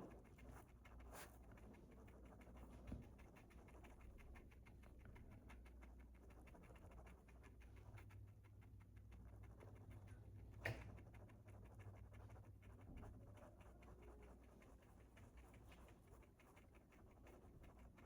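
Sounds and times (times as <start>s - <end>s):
faint ticks and scratches: 0.0s - 18.0s
low steady hum: 0.0s - 18.0s.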